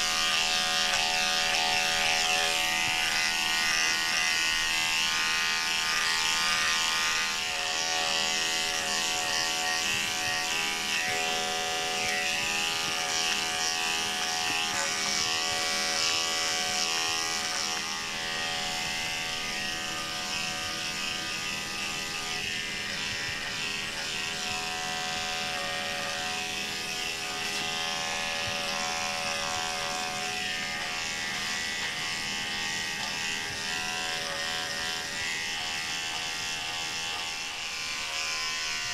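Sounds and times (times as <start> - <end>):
electric dog clippers buzzing: 0.0 - 38.9.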